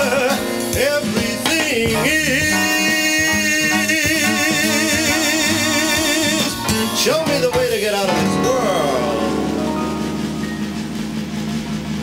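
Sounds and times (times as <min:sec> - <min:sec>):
instrumental backing: 0:00.0 - 0:12.0.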